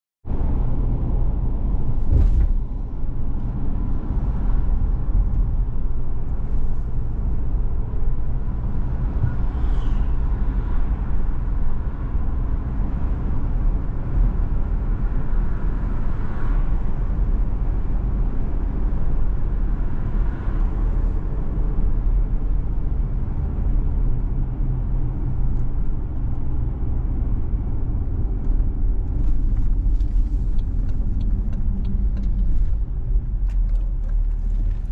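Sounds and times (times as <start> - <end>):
car driving on road: 0.3 - 34.9.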